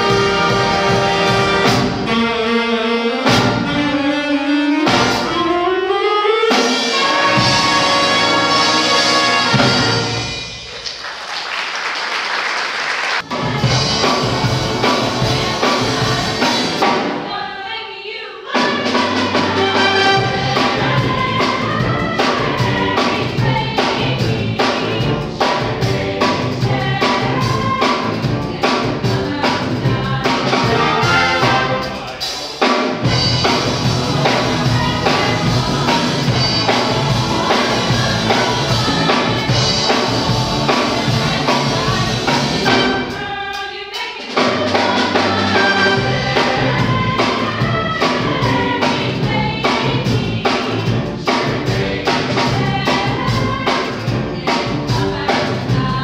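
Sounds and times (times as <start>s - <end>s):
drums steady beat: 0.0s - 2.2s, 6.5s - 11.0s, 13.2s - 17.3s, 18.6s - 56.0s
vocal group singing: 0.0s - 2.6s, 6.5s - 10.2s, 13.2s - 56.0s
jazz big band playing: 0.0s - 11.0s, 13.2s - 17.3s, 18.6s - 56.0s.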